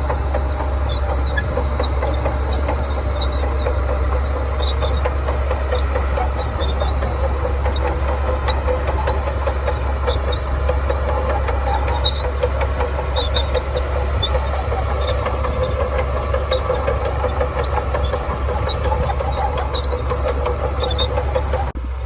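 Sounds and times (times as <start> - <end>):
high-pitched squeaks: 0.0 - 21.8
rapid irregular clatter: 0.0 - 21.8
bulldozer diesel engine running: 0.0 - 22.0.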